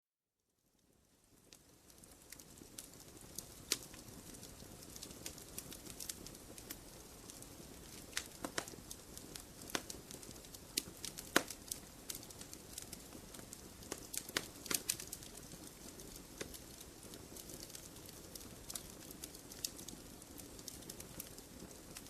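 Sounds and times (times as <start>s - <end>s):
burning wood crackling and popping: 0.8s - 22.0s
campfire flames rushing: 1.4s - 22.0s.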